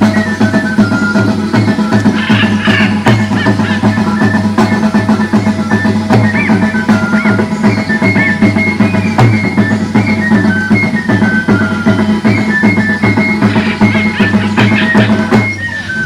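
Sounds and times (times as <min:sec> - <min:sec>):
drums keeping a steady beat: 0:00.0 - 0:16.0
high melody line: 0:00.0 - 0:16.0.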